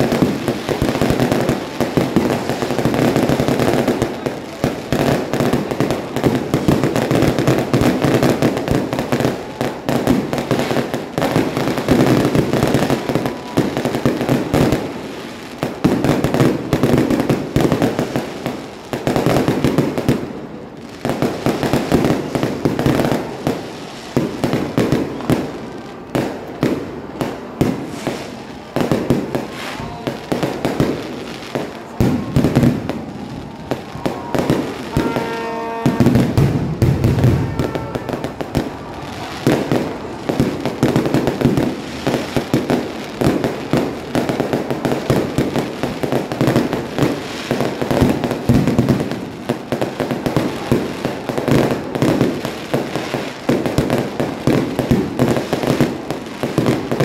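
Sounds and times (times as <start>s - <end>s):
fireworks bursting: 0.0s - 57.0s
fireworks crackle: 0.0s - 57.0s.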